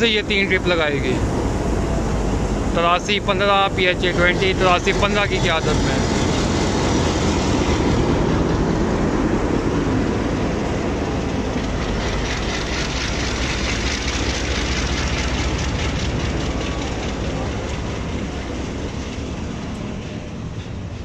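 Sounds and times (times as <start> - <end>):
diesel locomotive engine running: 0.0 - 21.0
train wheels clicking over rail joints: 0.0 - 21.0.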